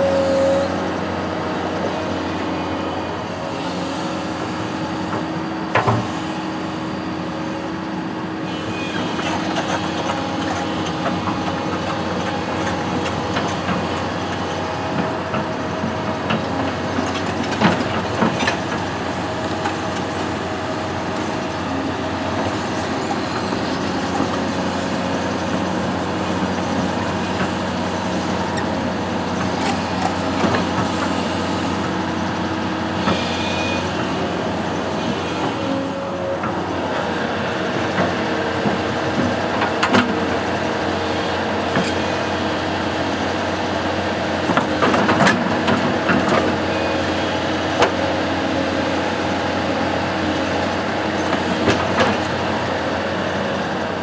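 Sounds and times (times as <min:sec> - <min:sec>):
construction machine engine running: 0:00.0 - 0:54.0.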